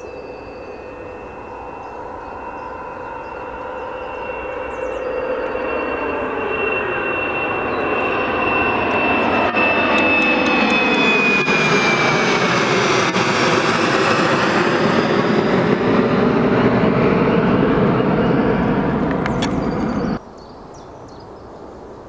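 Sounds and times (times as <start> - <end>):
jet airliner passing: 0.0 - 20.2.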